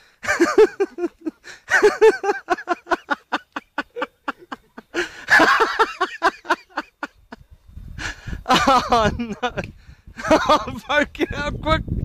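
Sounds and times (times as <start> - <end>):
person laughing hard: 0.2 - 7.4, 8.1 - 11.5.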